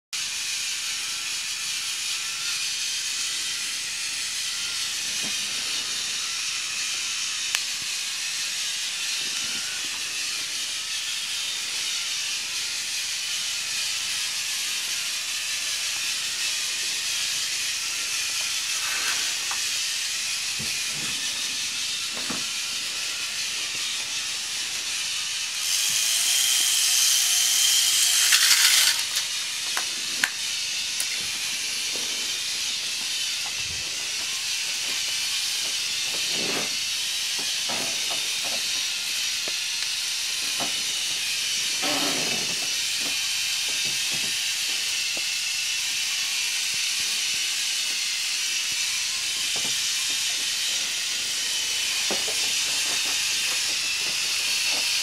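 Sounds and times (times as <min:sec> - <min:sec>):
motorized chain lift whirring: 0:00.2 - 0:55.0.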